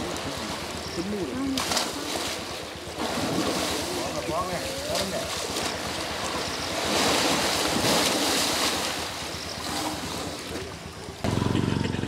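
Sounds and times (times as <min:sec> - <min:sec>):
elephant splashing in water: 0:00.0 - 0:11.1
engine running: 0:00.0 - 0:12.0.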